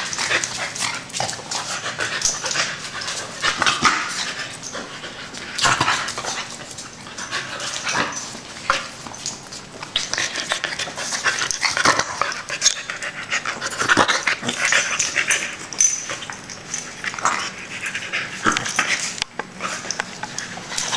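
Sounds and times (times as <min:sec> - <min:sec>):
scuffling and clicks on tile floor: 0:00.0 - 0:20.9.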